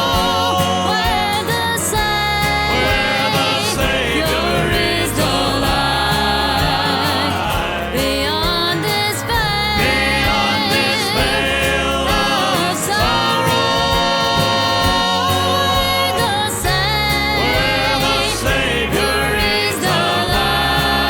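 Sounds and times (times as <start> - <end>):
instrumental accompaniment with bass: 0.0 - 21.0
voices singing gospel in harmony: 0.0 - 21.0.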